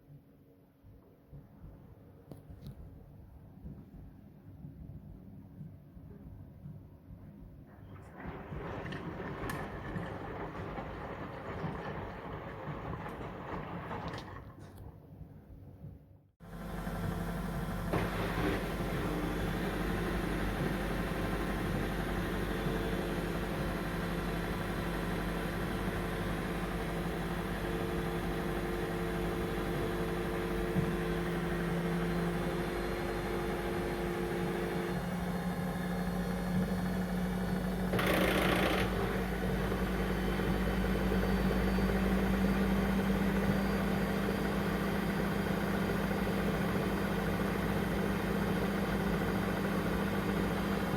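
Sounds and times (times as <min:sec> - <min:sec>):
washing machine motor spinning: 0:07.8 - 0:15.0, 0:16.4 - 0:50.9.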